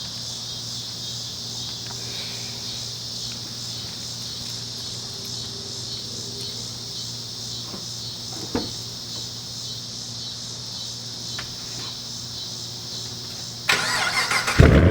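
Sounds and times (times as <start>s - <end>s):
high-pitched insect chorus: 0.0s - 14.6s.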